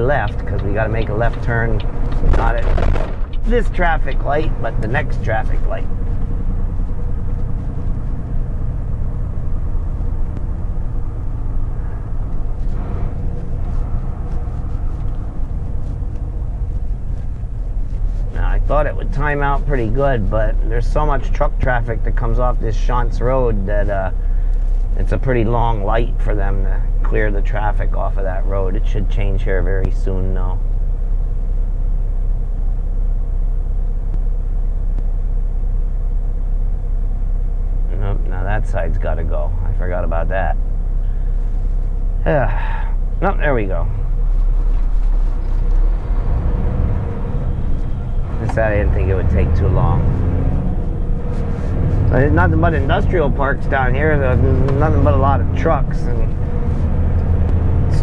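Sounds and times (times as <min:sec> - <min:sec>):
diesel truck engine rumble: 0:00.0 - 0:58.0.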